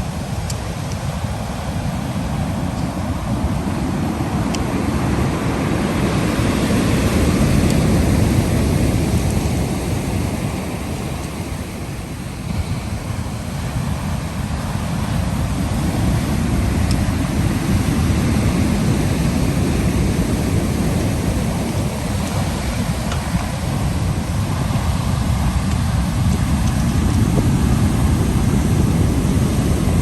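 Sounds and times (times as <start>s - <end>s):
ocean surf washing in: 0.0s - 30.0s
wind rumbling on microphone: 0.0s - 30.0s.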